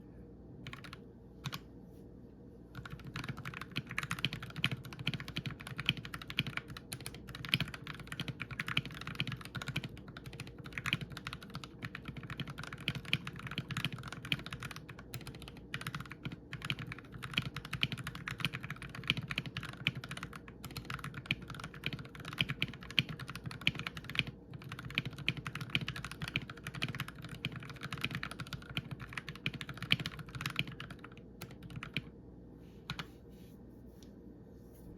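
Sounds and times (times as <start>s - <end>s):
typing on mechanical keyboard: 0.6s - 1.6s, 2.7s - 32.1s.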